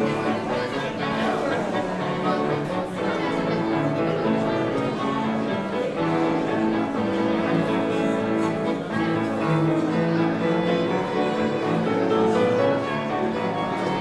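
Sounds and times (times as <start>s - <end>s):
slow string music: 0.0s - 14.0s.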